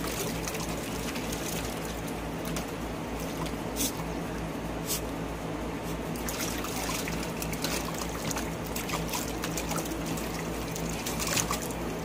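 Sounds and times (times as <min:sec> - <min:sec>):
dog splashing in water: 0:00.0 - 0:04.1, 0:06.1 - 0:12.0.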